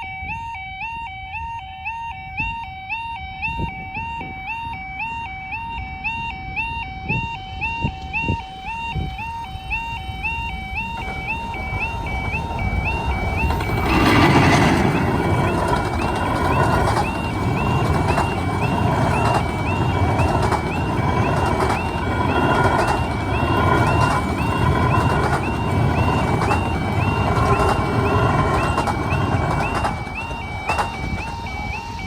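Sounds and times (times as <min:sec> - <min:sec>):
level crossing alarm two-tone yelp: 0:00.0 - 0:32.0
wheels clicking on rail joints: 0:00.0 - 0:32.0
train rumbling: 0:01.1 - 0:32.0.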